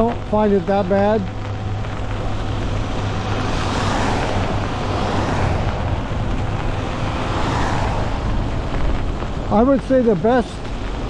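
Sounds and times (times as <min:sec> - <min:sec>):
tyres hissing on wet road: 0:00.0 - 0:11.0
wind buffeting microphone: 0:00.0 - 0:11.0.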